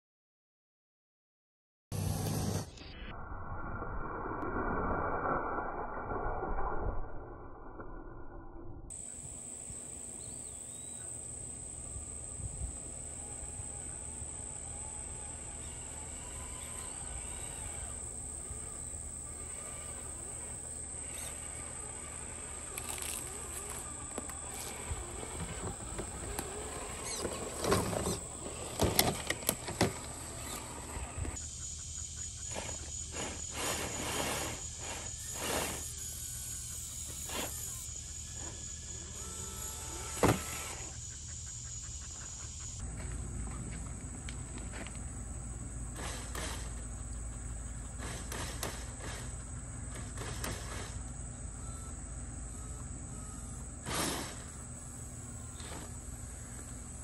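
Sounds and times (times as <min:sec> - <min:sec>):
high-pitched insect drone: 0:08.9 - 0:43.1, 0:44.1 - 0:57.0.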